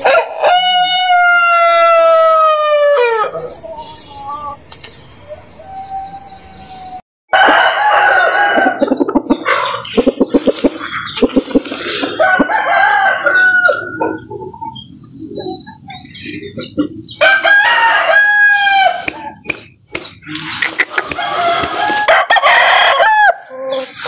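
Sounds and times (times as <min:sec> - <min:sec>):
chickens squawking and clucking: 0:00.0 - 0:24.0.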